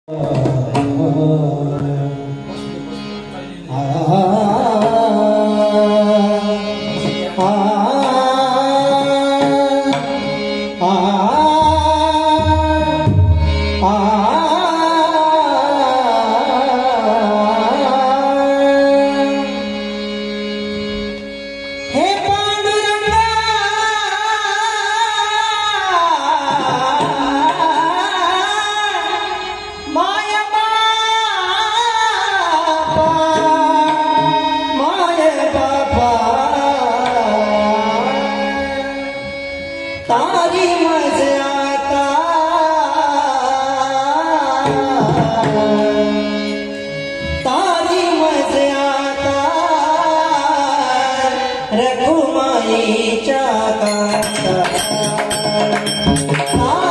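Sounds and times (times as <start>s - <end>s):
man singing devotional song: 0.0s - 56.9s
tabla: 0.0s - 56.9s.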